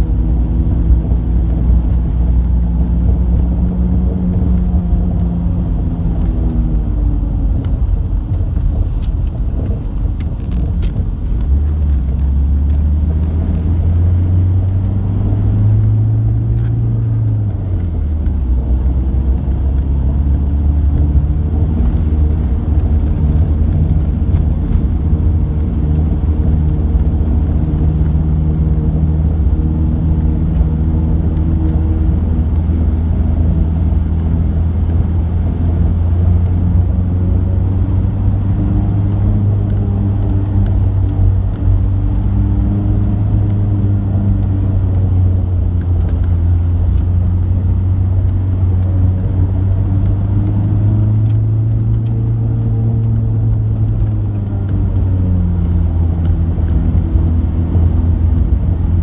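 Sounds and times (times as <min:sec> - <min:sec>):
vehicle engine and road hum: 0:00.0 - 0:59.0.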